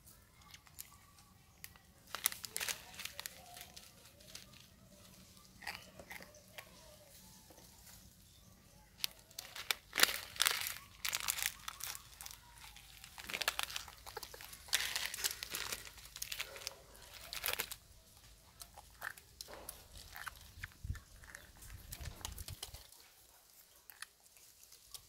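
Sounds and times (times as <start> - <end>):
monkeys crunching dry noodles: 0.0 - 25.0.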